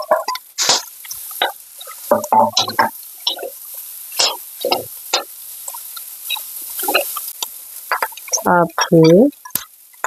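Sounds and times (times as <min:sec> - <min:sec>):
metal spatula scraping a wok: 0:00.0 - 0:09.6.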